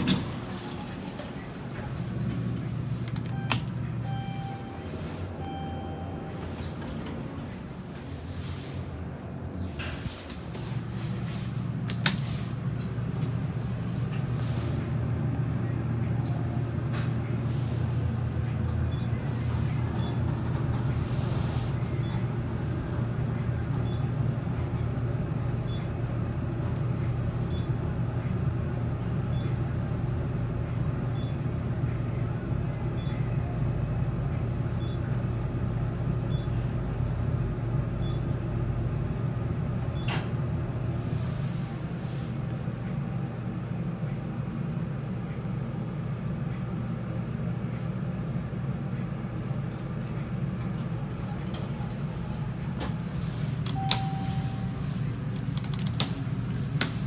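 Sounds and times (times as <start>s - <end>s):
elevator humming: 0.0s - 57.0s.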